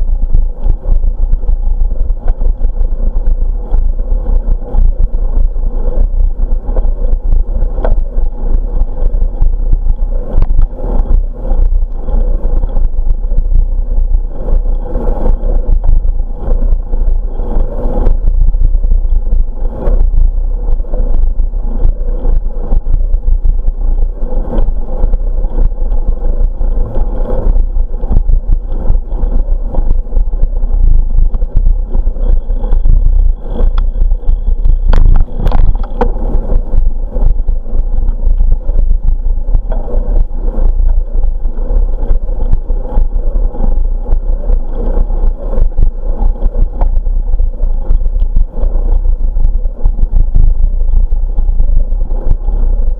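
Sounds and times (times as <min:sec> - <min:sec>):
bicycle rolling rumble: 0:00.0 - 0:52.9
wind buffeting microphone: 0:00.0 - 0:52.9.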